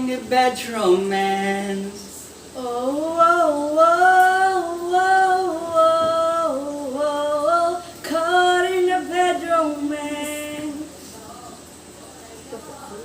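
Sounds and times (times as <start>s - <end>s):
woman singing held vowel: 0.0s - 11.0s.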